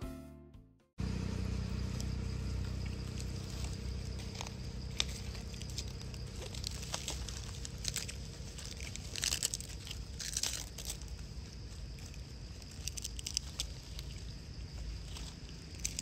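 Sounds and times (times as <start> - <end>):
dry leaf crinkling and crackling: 1.5 - 16.0.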